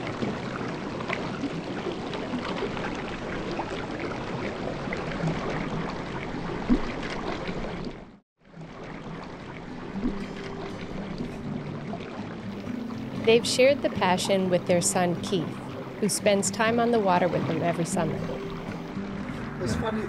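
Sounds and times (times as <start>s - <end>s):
river water rushing and rippling: 0.0s - 20.0s.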